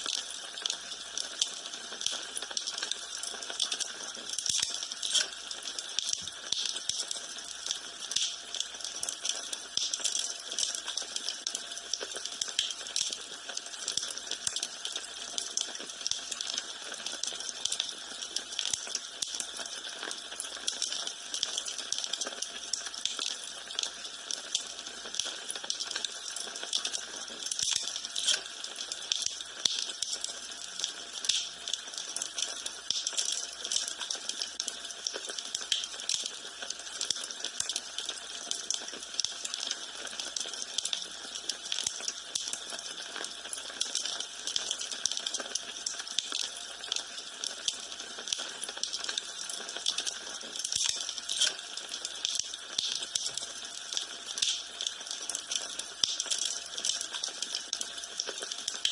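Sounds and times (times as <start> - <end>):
wood fire crackling: 0.0 - 19.4, 21.0 - 39.7, 40.8 - 58.9.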